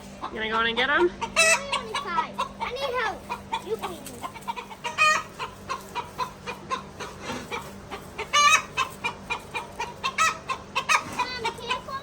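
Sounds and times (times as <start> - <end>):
chickens clucking: 0.0 - 12.0
chicken squawk: 1.0 - 12.0.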